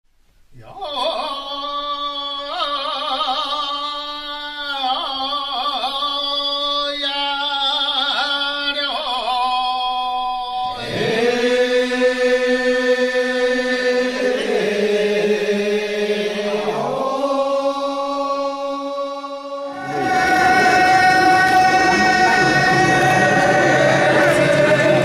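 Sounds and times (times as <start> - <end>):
solo voice chanting: 0.6 - 25.0.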